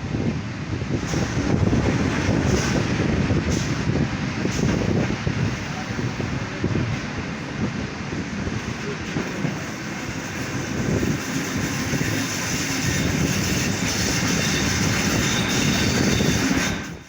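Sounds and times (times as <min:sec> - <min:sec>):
diesel railcar engine: 0:00.0 - 0:17.0
train wheels on rails: 0:00.0 - 0:17.0.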